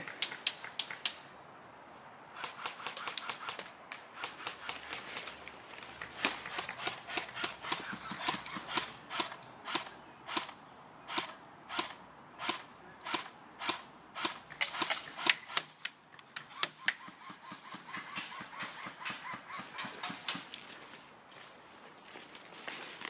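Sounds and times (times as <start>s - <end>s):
airsoft guns popping: 0.0s - 1.2s, 2.4s - 20.6s.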